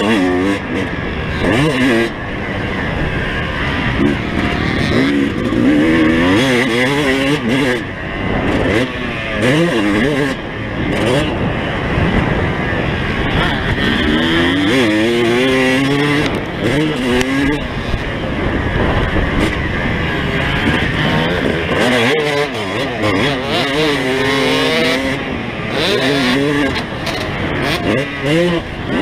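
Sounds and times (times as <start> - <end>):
motocross engine revving: 0.0 - 29.0.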